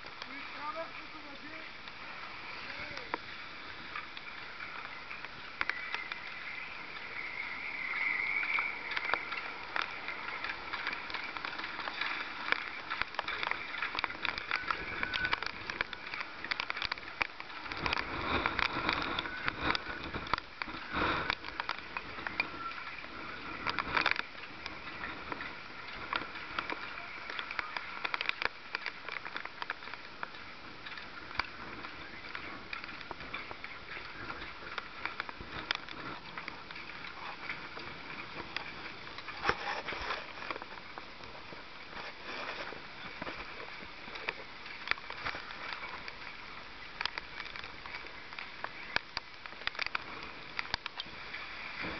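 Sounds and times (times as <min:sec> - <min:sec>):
rough sea waves splashing: 0:00.0 - 0:51.9.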